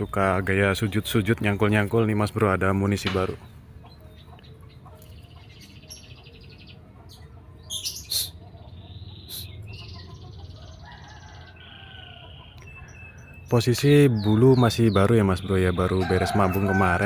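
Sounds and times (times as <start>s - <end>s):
bird singing trills: 0.0s - 17.0s.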